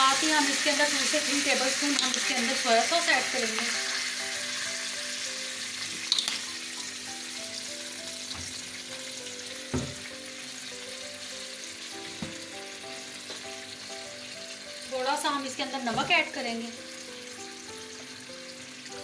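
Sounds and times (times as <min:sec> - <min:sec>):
sauce sizzling in a wok: 0:00.0 - 0:19.0
soft background music: 0:00.0 - 0:19.0.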